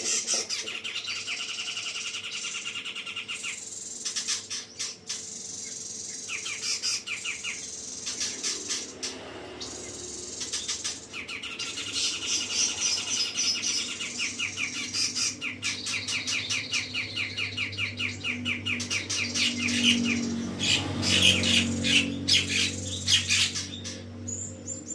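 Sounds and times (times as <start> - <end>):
bird singing chattering trills: 0.0 - 24.9.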